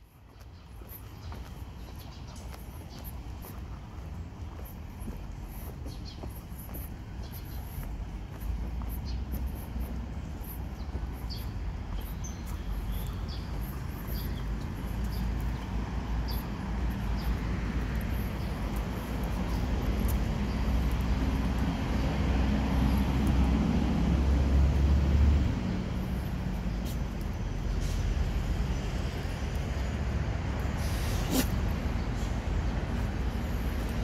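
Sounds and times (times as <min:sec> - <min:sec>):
motor vehicle rumble: 0:00.0 - 0:34.0
small birds chirping: 0:00.0 - 0:34.0.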